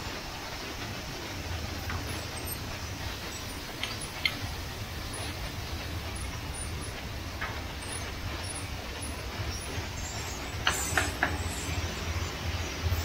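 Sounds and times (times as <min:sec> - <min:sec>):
gas torches rumbling: 0:00.0 - 0:13.0.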